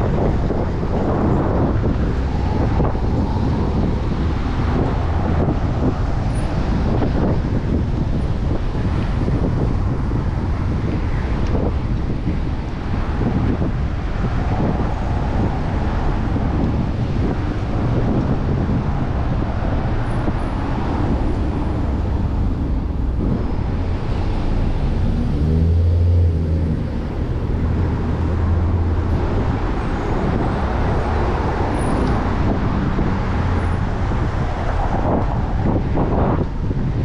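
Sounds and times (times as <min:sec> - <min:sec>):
city road traffic: 0:00.0 - 0:37.0
vehicle engine drone: 0:00.0 - 0:37.0
wind on microphone: 0:00.0 - 0:37.0.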